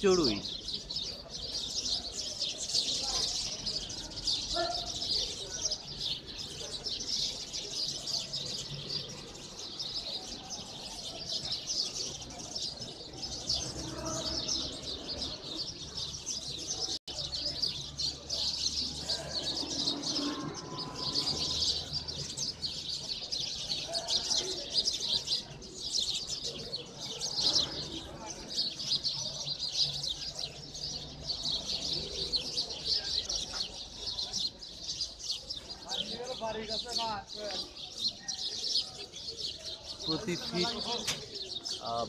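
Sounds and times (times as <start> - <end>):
flock of sparrows chirping: 0.0 - 42.0.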